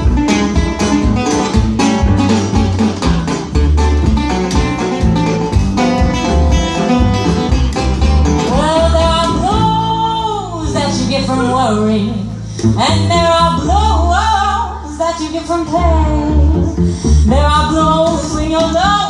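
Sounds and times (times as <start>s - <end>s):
bass notes: 0.0s - 19.0s
plucked and strummed strings: 0.0s - 19.0s.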